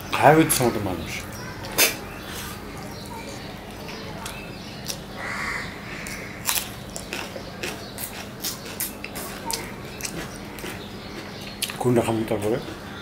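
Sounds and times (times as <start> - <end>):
wet chewing: 1.2 - 13.0.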